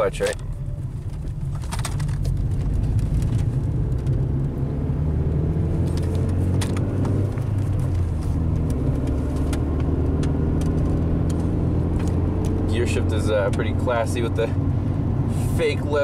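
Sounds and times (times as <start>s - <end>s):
car engine accelerating: 0.0s - 16.0s
road noise: 0.0s - 16.0s.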